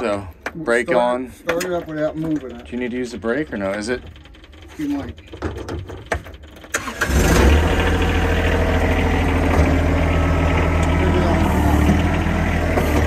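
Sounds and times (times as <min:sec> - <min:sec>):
diesel engine cranking and idling: 0:00.0 - 0:13.0.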